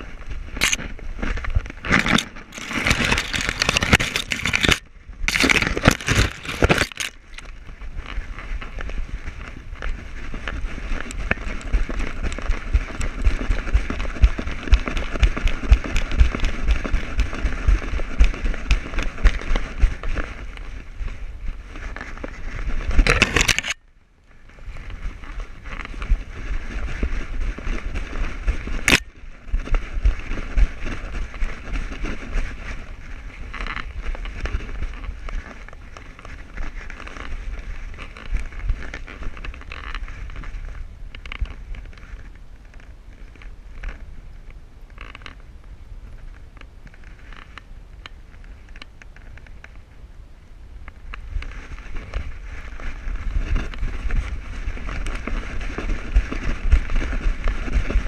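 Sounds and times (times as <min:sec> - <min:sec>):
clicks and crackles: 0:00.0 - 0:49.8, 0:50.8 - 0:58.0
camera rubbing rumble: 0:00.0 - 0:50.1, 0:50.7 - 0:58.0.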